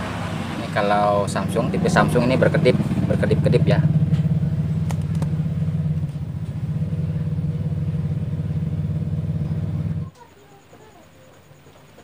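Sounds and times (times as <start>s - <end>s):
pulsing mechanical hum: 0.0s - 10.1s.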